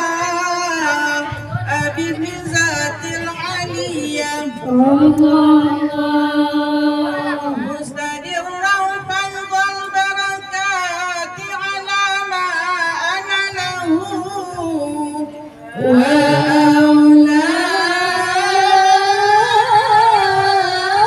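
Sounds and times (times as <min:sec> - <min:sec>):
woman singing through microphone: 0:00.0 - 0:21.0.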